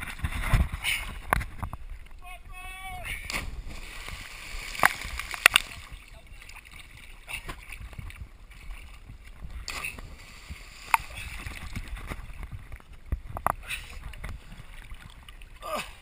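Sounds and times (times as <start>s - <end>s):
water lapping and gurgling: 0.0s - 16.0s.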